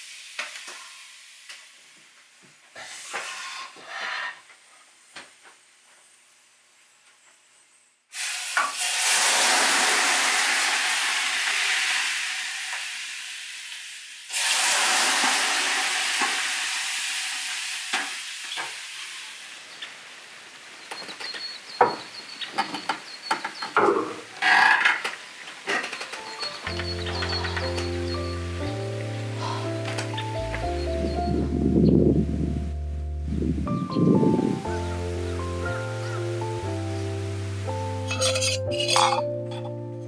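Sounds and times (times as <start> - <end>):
water hissing on hot stones: 0.0 - 7.0, 8.1 - 30.6, 34.6 - 39.0.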